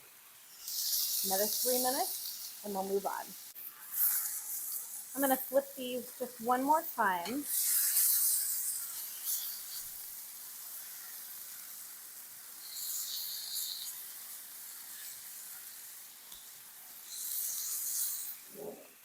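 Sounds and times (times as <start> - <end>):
meat sizzling in a skillet: 0.0 - 19.0.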